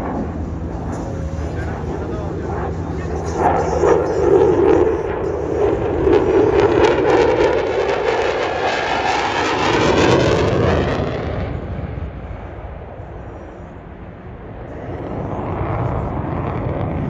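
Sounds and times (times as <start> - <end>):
jet engine passing: 0.0 - 17.0.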